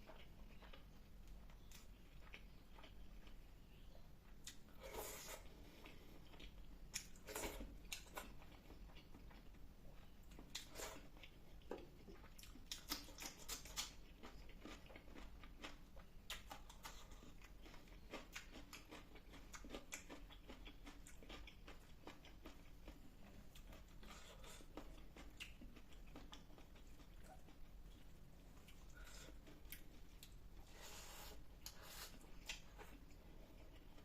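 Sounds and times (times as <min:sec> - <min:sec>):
person chewing: 0:00.0 - 0:34.0.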